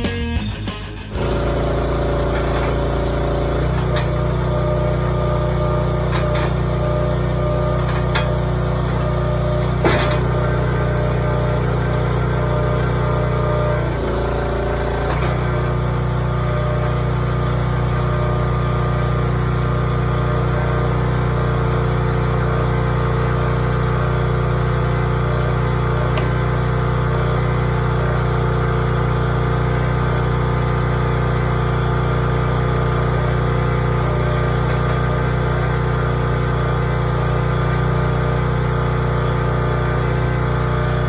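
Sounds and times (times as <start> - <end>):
log splitter engine running: 0.0 - 41.0.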